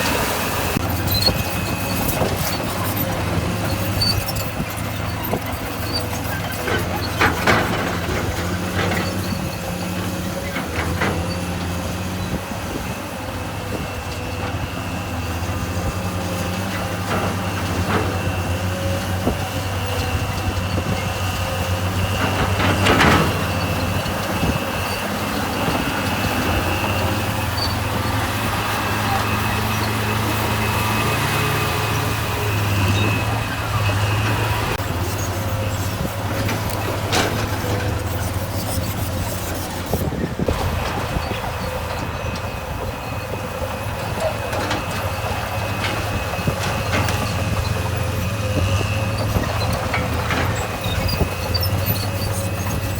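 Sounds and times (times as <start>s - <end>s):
diesel engine under work: 0.0s - 52.9s.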